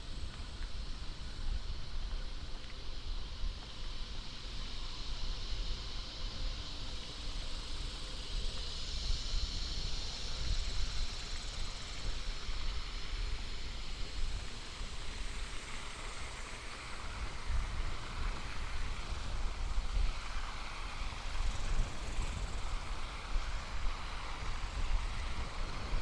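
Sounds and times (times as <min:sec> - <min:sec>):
low wind rumble: 0:00.0 - 0:26.0
steady high hiss: 0:00.0 - 0:26.0.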